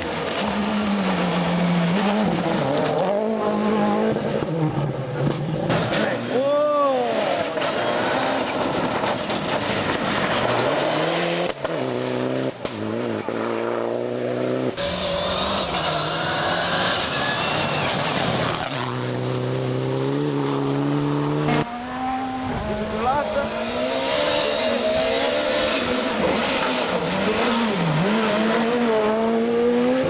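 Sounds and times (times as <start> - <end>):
rally car engines at high revs: 0.0 - 30.0.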